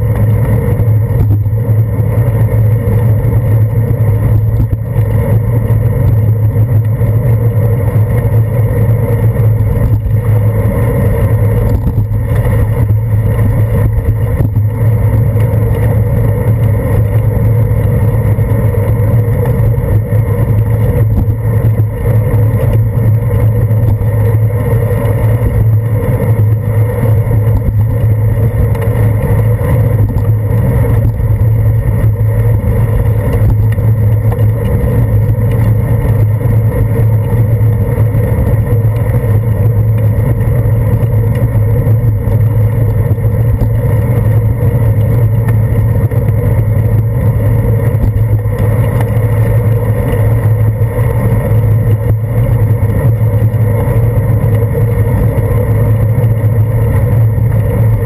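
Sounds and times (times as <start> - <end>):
muffled road and wind noise: 0.0 - 58.0.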